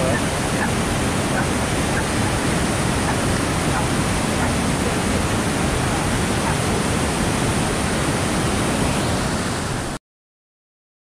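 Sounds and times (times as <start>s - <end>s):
waterfall and creek rushing: 0.0s - 10.0s.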